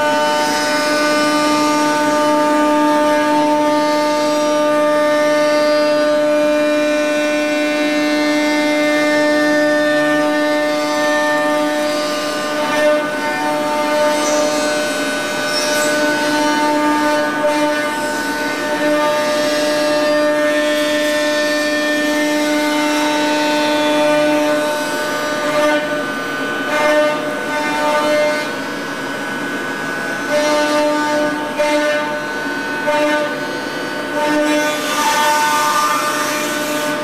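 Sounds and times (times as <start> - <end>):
milling machine cutting whine: 0.0 - 37.0.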